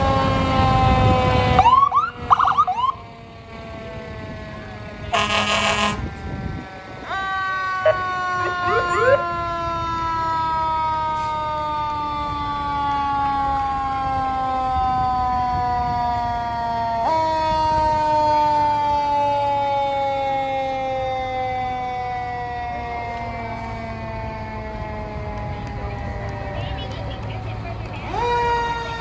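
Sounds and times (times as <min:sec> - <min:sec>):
fire truck siren: 0:00.0 - 0:29.0.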